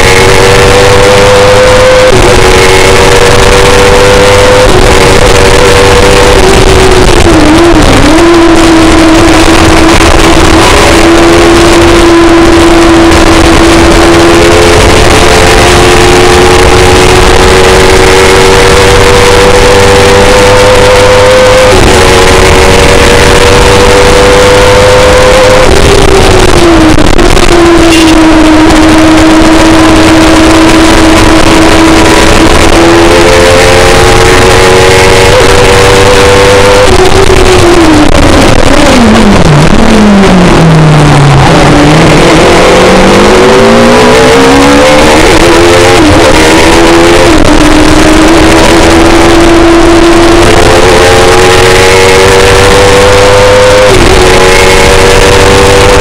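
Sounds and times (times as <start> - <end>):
heavy wind noise: 0.0 - 56.0
high-revving racing engine: 0.0 - 56.0.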